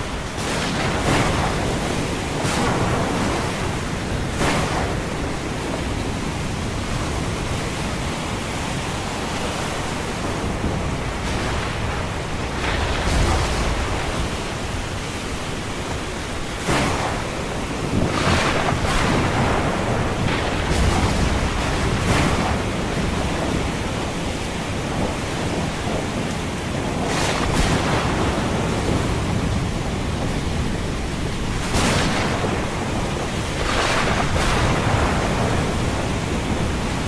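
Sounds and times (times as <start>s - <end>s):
ocean surf washing: 0.0s - 37.0s
waves breaking: 0.0s - 37.0s.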